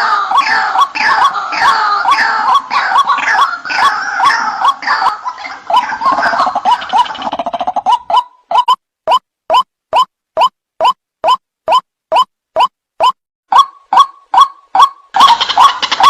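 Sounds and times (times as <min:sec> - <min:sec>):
bird calls with rising notes: 0:00.0 - 0:16.0.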